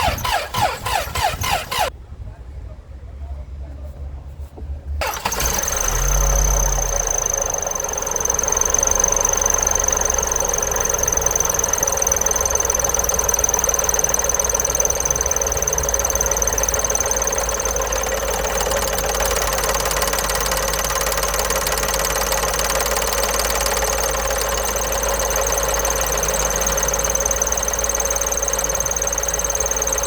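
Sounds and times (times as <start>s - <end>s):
engine running with rattle: 0.0s - 1.9s, 4.5s - 30.0s.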